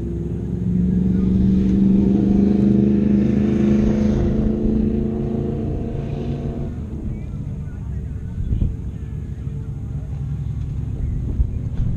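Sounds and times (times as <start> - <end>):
engine humming: 0.0 - 11.9.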